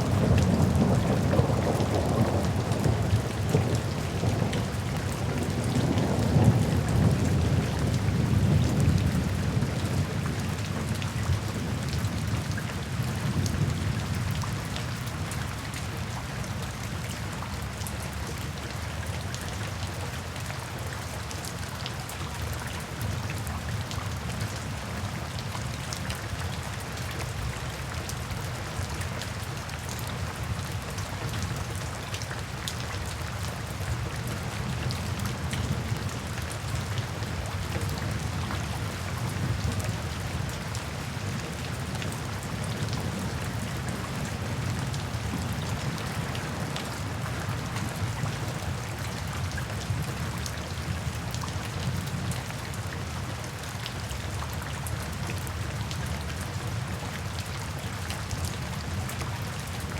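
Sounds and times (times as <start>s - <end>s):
rain drops ticking on hard surfaces: 0.0s - 59.9s.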